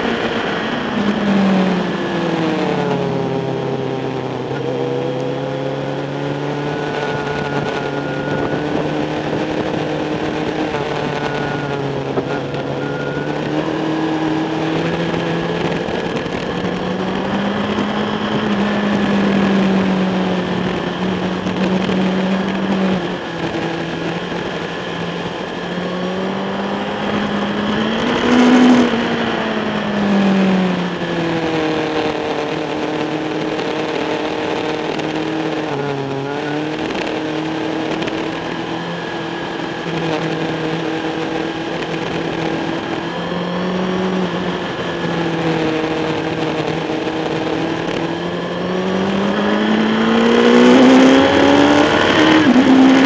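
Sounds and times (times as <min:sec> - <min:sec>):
racing motorcycle engine: 0:00.0 - 0:53.0.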